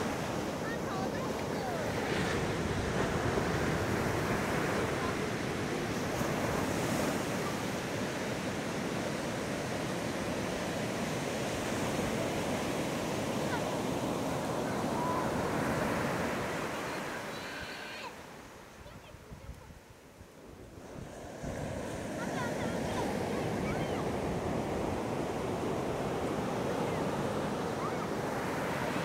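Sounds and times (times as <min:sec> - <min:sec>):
surf breaking on beach: 0:00.0 - 0:29.0.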